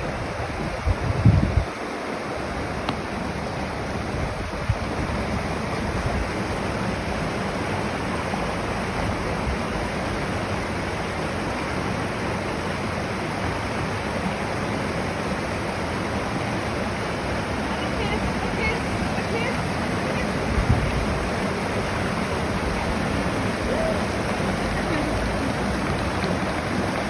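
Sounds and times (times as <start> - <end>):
river rapids rushing over rocks: 0.0 - 27.0.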